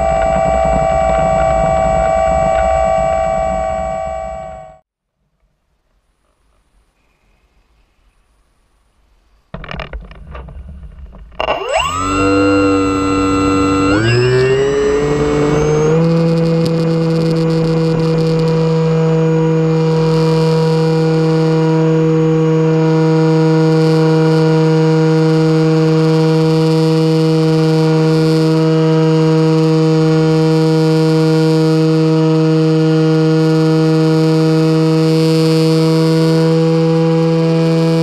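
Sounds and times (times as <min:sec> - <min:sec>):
model plane motor whine: 0:00.0 - 0:04.8, 0:11.3 - 0:38.0.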